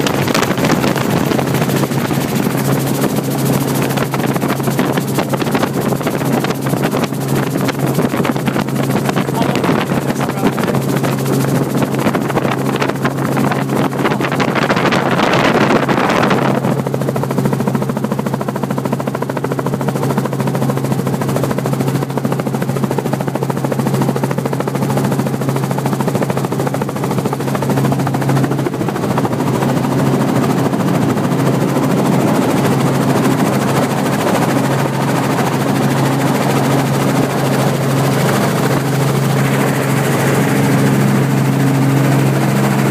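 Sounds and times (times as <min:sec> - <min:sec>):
helicopter engine and rotor: 0:00.0 - 0:42.9.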